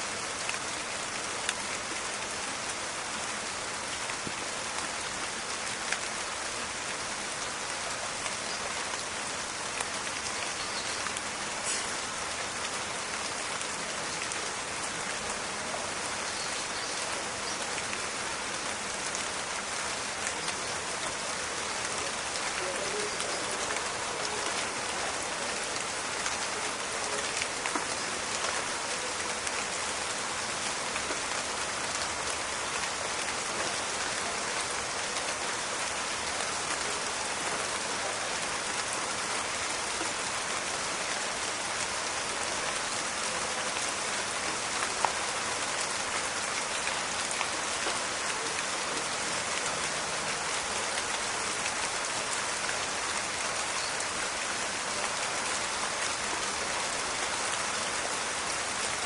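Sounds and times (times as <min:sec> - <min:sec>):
rain falling in a forest: 0:00.0 - 0:59.0.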